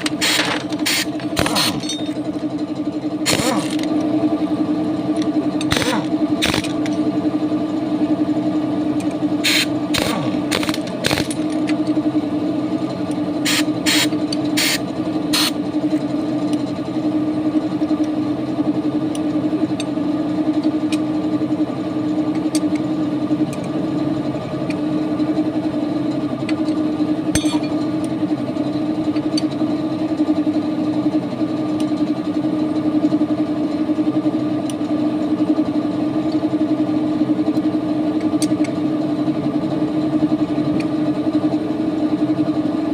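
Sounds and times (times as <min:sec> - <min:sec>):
engine droning: 0:00.0 - 0:42.9.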